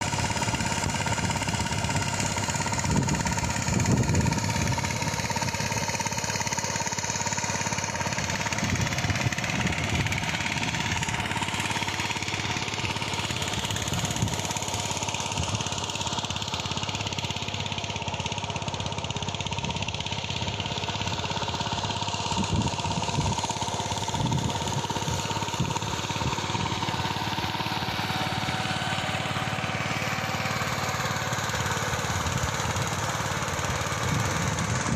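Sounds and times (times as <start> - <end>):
farm machine engine running: 0.0 - 34.9.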